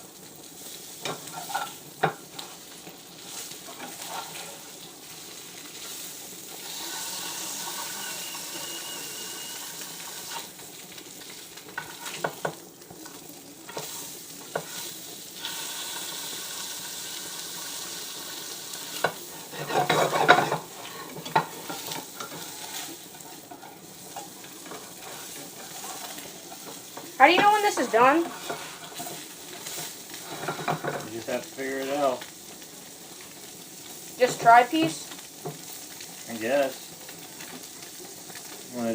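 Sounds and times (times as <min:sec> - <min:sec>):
fish sizzling in a pan: 0:00.0 - 0:38.9.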